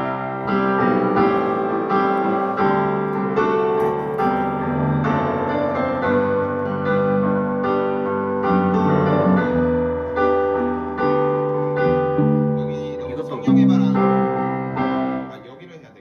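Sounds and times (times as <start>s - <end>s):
clean electric guitar chords: 0.0s - 15.3s
electric piano chords: 0.0s - 16.0s.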